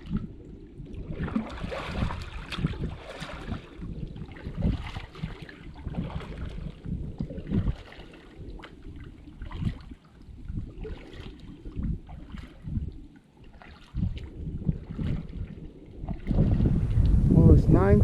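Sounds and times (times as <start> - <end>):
paddle splashing and dripping: 0.0 - 17.2
wind buffeting microphone: 0.0 - 18.0.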